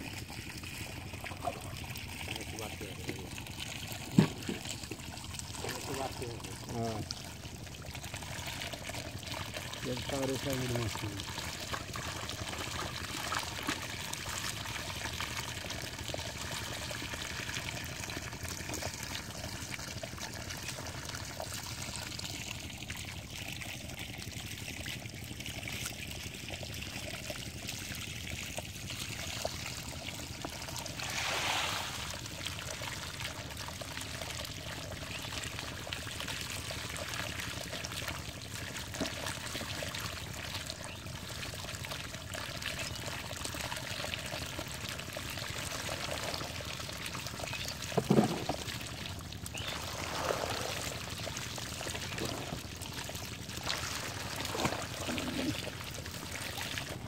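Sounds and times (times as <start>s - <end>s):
water pouring through a channel: 0.0s - 57.0s.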